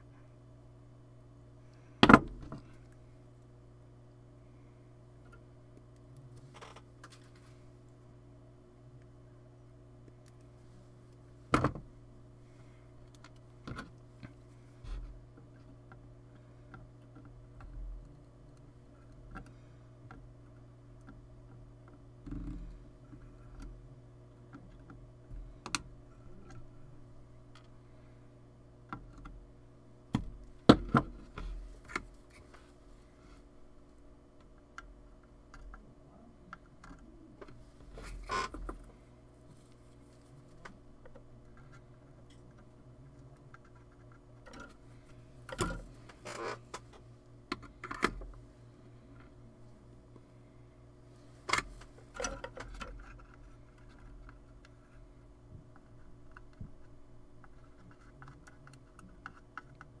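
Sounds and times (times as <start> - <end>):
low electrical hum: 0.0 - 60.0.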